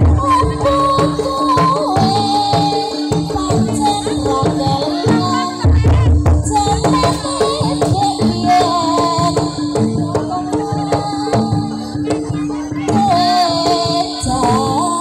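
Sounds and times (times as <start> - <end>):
percussion ensemble of drums and gongs: 0.0 - 15.0.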